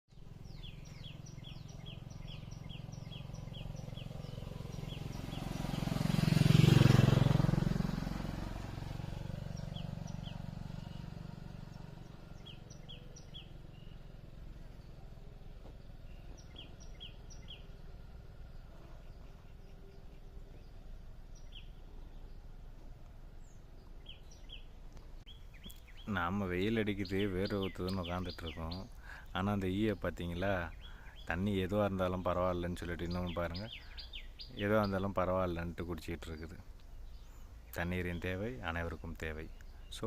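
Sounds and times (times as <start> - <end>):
low hum of traffic: 0.1 - 40.0
small bird chirping: 0.1 - 40.0
motor vehicle passing: 0.2 - 40.0.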